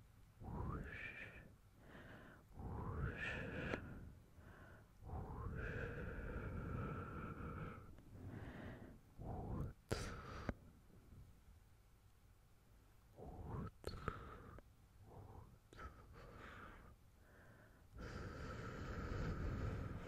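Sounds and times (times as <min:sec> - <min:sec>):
quiet inhales: 0:00.4 - 0:10.7, 0:13.2 - 0:20.0.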